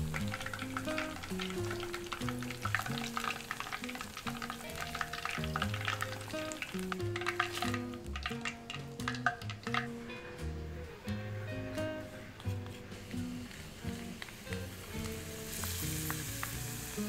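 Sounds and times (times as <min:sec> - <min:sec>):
chicken deep-frying in oil: 0:00.0 - 0:10.2, 0:12.9 - 0:17.0
background music: 0:00.0 - 0:17.0.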